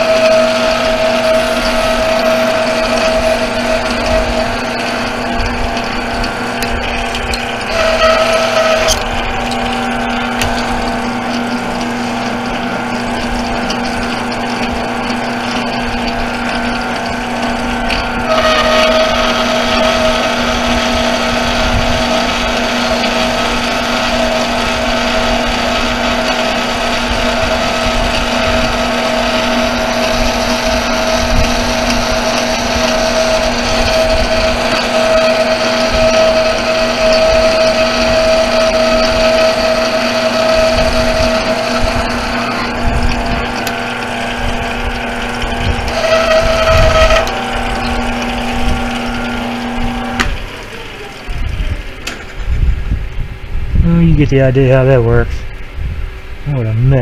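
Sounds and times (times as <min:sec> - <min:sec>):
higher whine: 0:00.0 - 0:57.0
metal lathe motor and gear whine: 0:00.0 - 0:57.0.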